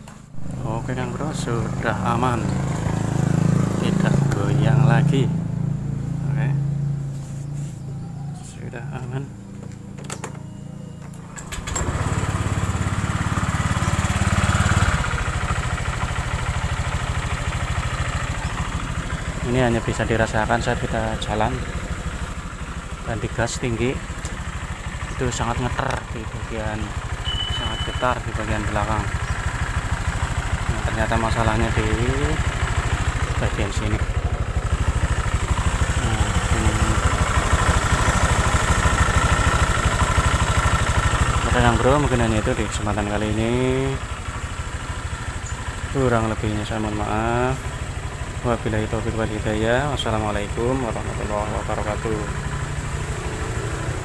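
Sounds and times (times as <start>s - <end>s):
scooter engine revving: 0.1s - 54.0s.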